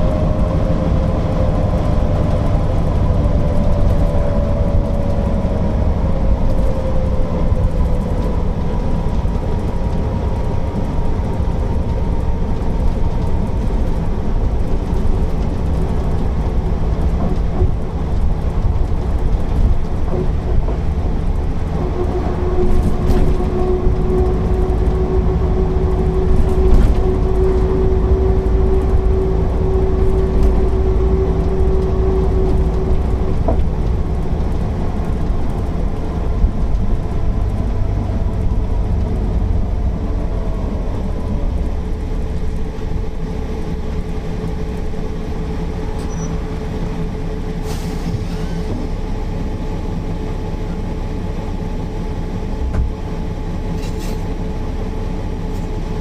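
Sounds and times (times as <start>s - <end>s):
bus diesel engine rumble: 0.0s - 56.0s
bus whine: 0.0s - 56.0s.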